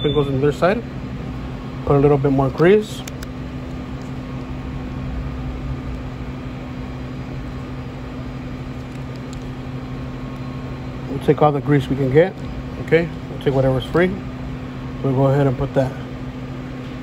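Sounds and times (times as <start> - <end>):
steady mechanical hum with hiss: 0.0 - 17.0.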